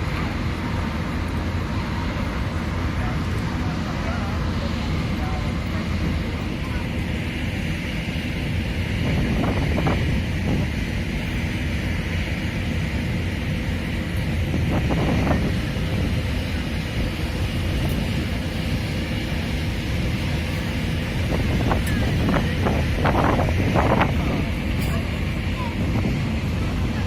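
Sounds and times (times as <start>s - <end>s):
steady low rumble: 0.0s - 27.0s
wind buffeting microphone: 4.6s - 27.0s.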